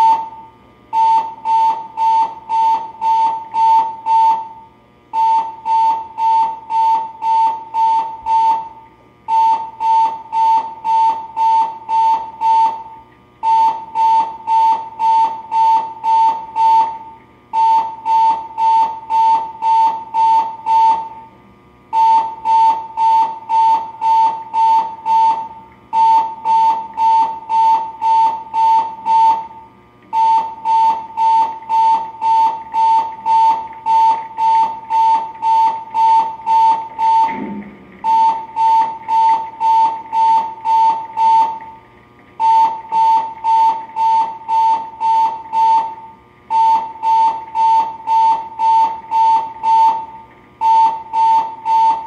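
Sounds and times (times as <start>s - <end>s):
high electronic alarm beeping: 0.0s - 4.6s, 5.2s - 21.2s, 22.0s - 41.8s, 42.4s - 52.0s.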